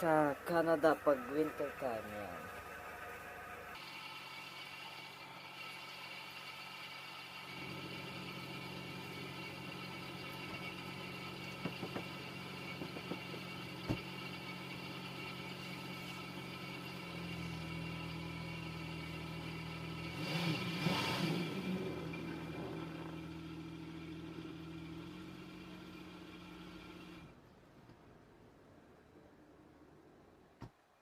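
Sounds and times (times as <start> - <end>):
car engine idling: 0.0 - 27.5.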